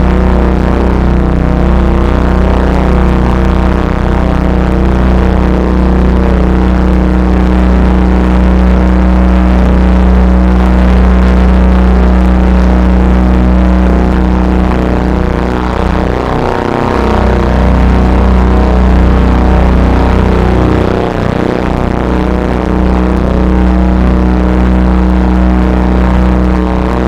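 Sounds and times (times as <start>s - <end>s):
drone noise music: 0.0s - 27.0s.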